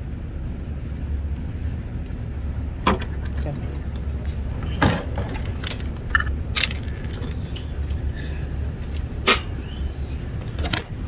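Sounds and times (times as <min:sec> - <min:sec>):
steady low hum: 0:00.9 - 0:11.0.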